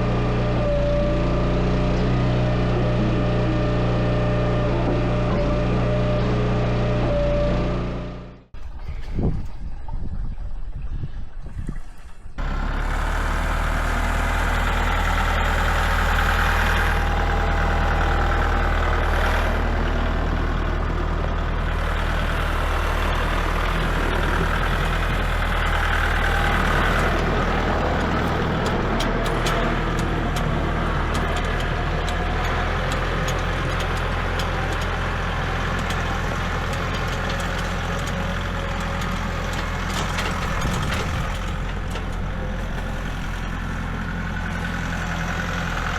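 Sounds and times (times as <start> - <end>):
engine humming steadily: 0.0 - 9.2, 12.3 - 45.9.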